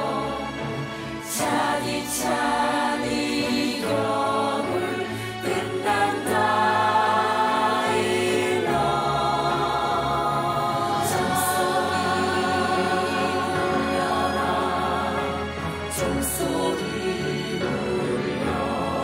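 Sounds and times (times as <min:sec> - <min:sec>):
cast singing together: 0:00.0 - 0:19.0.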